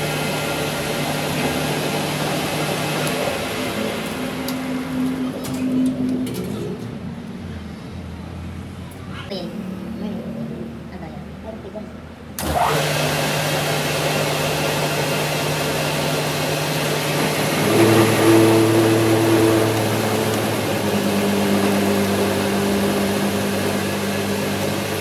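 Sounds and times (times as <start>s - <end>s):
lathe motor humming: 0.0s - 8.3s, 12.2s - 25.0s.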